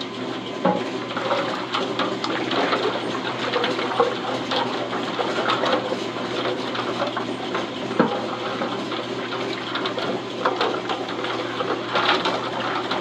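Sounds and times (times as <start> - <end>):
liquid sloshing in pot: 0.1 - 13.0.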